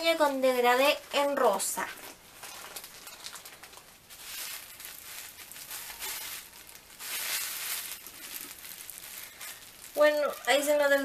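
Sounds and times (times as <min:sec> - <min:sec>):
wig rustling: 0:00.1 - 0:11.0.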